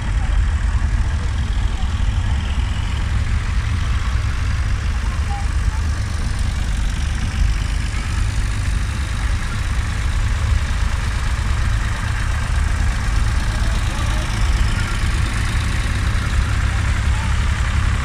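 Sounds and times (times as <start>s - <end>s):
tractor engines rumbling: 0.0s - 18.0s.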